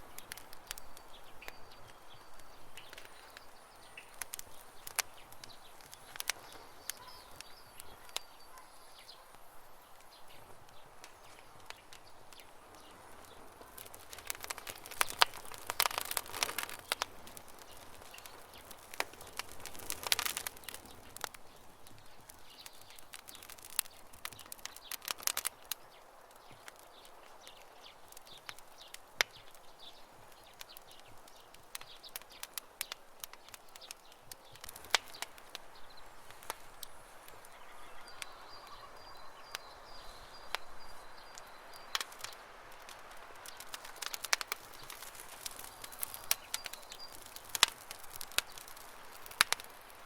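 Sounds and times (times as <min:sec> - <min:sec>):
campfire crackling and popping: 0:00.0 - 0:50.0.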